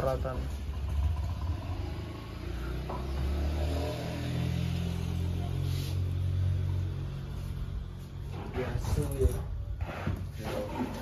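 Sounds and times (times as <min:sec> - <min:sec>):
vehicle engine revving: 0:00.0 - 0:08.9.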